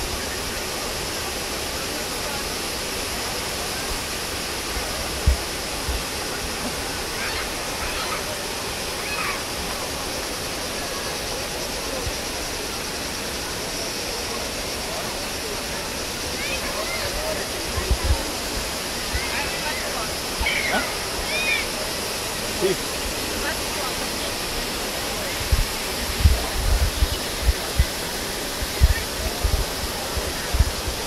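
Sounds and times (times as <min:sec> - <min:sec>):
faint voices: 0:00.0 - 0:31.0
waterfall rushing: 0:00.0 - 0:31.0.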